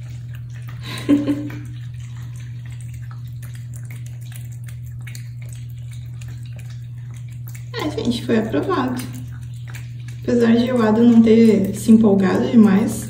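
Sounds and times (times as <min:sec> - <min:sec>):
cats licking and chewing: 0:00.0 - 0:13.0
low hum: 0:00.0 - 0:13.0.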